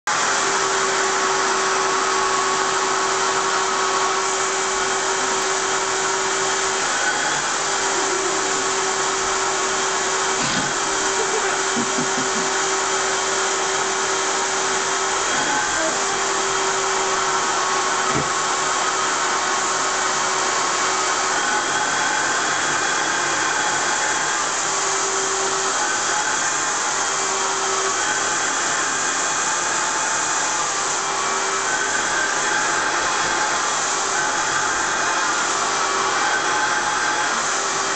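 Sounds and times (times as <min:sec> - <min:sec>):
vacuum cleaner running: 0:00.1 - 0:37.9.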